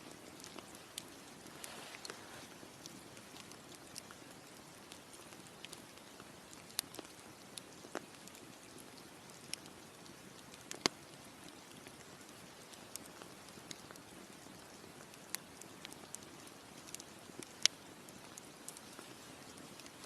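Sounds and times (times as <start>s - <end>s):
campfire crackling: 0.0s - 20.0s
burning wood popping: 0.1s - 20.0s.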